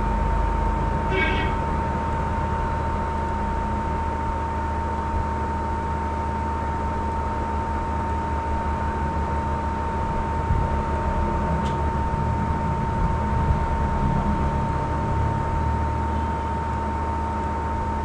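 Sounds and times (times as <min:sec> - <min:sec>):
low hum: 0:00.0 - 0:05.8, 0:08.3 - 0:17.2
high whine: 0:00.0 - 0:18.0.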